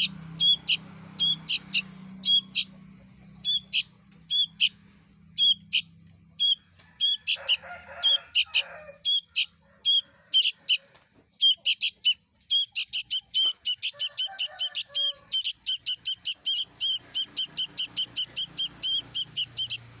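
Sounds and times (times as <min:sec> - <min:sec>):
young bird chirping: 0:00.0 - 0:20.0.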